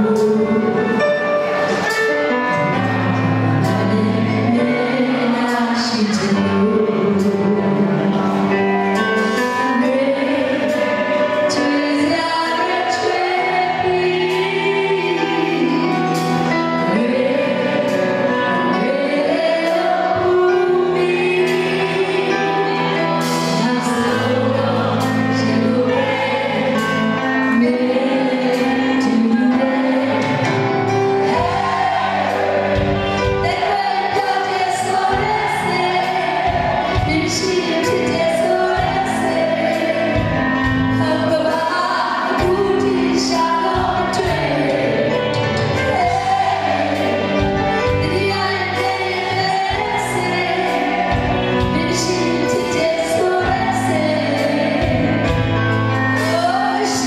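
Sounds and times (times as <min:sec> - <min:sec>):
woman singing into microphone: 0:00.0 - 0:01.2, 0:03.6 - 0:30.5, 0:31.3 - 0:55.4, 0:56.2 - 0:57.0.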